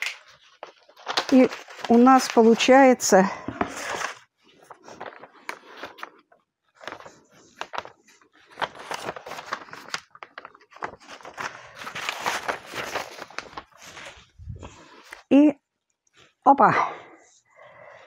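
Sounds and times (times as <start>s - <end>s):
paper rustling and crinkling: 0.0s - 15.3s.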